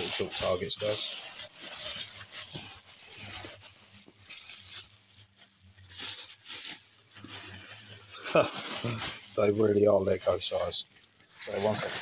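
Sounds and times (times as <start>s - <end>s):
bubble wrap and cardboard crinkling: 0.0s - 12.0s
packaging tearing: 0.0s - 12.0s.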